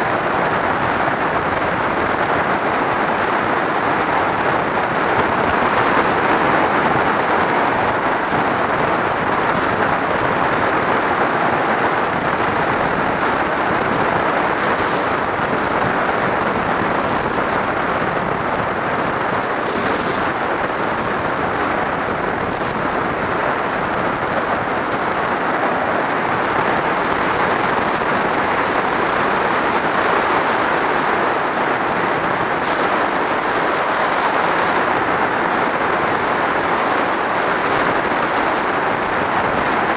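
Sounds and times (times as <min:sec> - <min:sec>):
motorcycle engine and tyre noise: 0:00.0 - 0:39.9
wind rushing over camera: 0:00.0 - 0:39.9.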